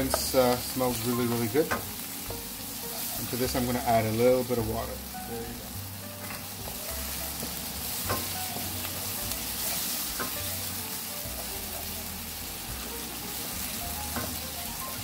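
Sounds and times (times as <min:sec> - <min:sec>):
sauce sizzling in a frying pan: 0:00.0 - 0:15.0.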